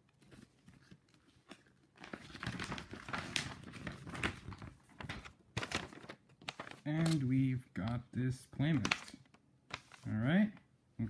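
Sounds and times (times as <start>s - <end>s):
paper and packaging crinkling: 0.2s - 7.9s, 8.6s - 10.6s.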